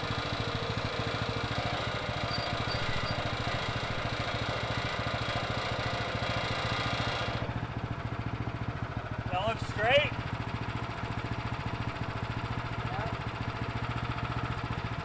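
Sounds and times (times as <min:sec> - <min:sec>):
sawmill gasoline engine running: 0:00.0 - 0:15.0.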